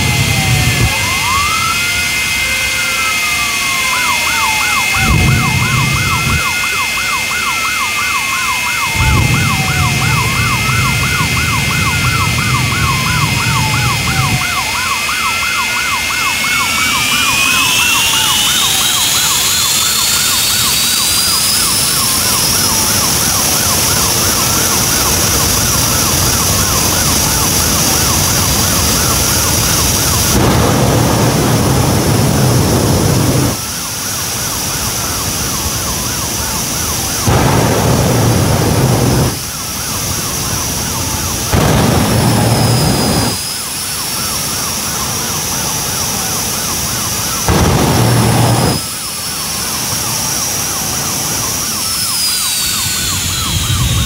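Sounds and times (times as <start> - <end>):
afterburner blasts: 0.0 - 7.4, 8.4 - 23.4, 26.6 - 33.7, 37.2 - 45.2, 47.2 - 54.0
jet engines whining: 0.0 - 54.0
siren wailing: 0.0 - 54.0.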